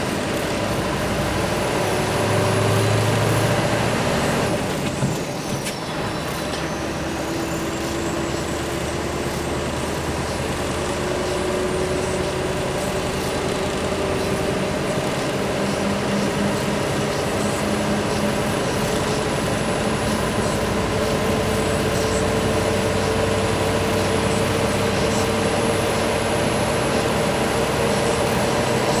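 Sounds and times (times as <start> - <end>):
diesel truck engine under load: 0.0 - 29.0
tyre and road noise: 0.0 - 29.0.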